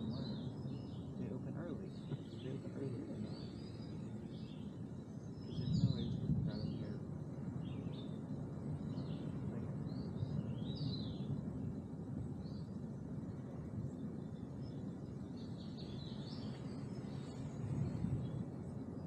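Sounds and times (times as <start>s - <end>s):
birds chirping: 0.0s - 19.0s
low outdoor rumble: 0.0s - 19.0s.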